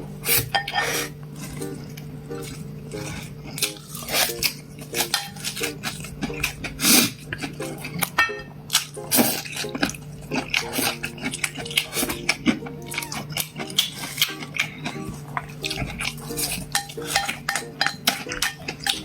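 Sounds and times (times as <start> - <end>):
faint background music: 0.0 - 19.0
utensils clinking against dishes: 0.3 - 19.0.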